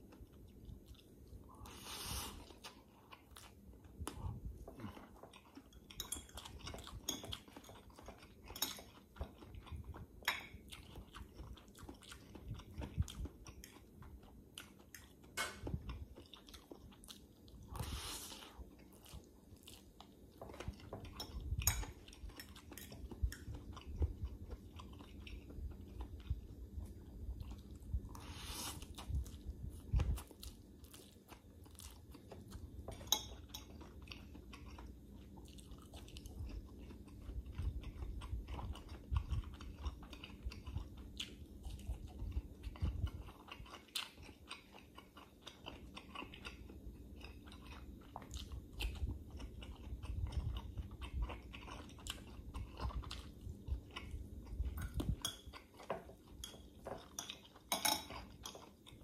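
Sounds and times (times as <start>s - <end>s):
man chewing and biting: 0.0s - 59.0s.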